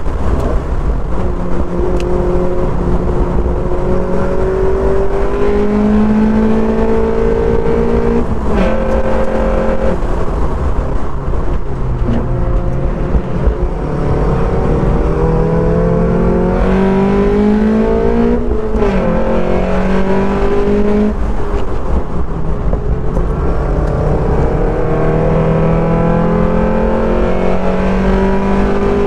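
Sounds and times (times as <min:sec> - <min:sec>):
sports car engine revving: 0:00.0 - 0:11.1, 0:11.7 - 0:21.5, 0:22.7 - 0:29.0.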